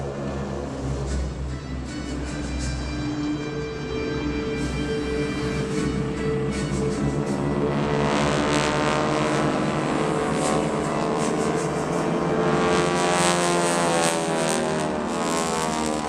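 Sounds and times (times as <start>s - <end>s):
radial aircraft engines passing overhead: 0.0s - 16.0s.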